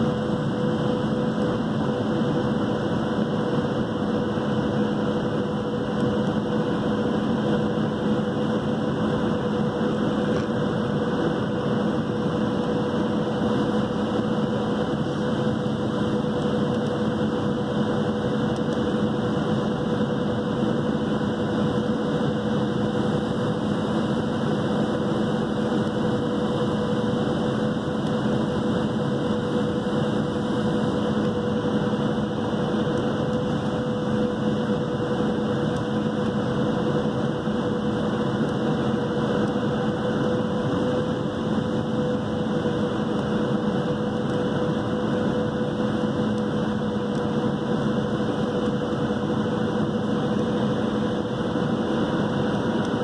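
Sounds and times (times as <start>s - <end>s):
airplane cabin engine noise: 0.0s - 53.0s.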